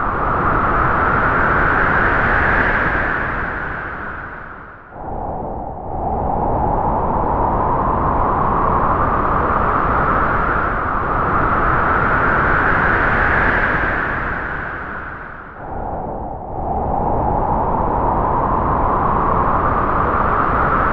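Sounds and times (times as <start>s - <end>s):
strong wind howling through trees: 0.0s - 20.9s.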